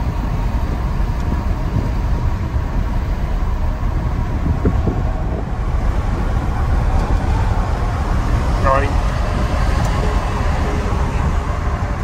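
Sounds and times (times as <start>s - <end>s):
road and engine noise in vehicle: 0.0s - 12.0s.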